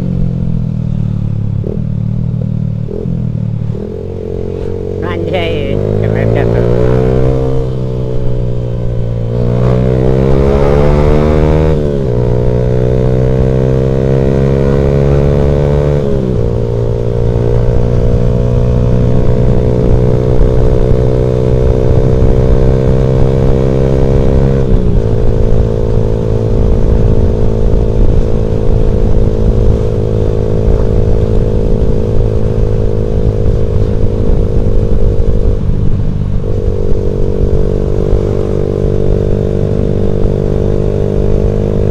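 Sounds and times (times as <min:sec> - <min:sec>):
motorcycle engine accelerating: 0:00.0 - 0:41.9
wind rumble: 0:00.0 - 0:41.9.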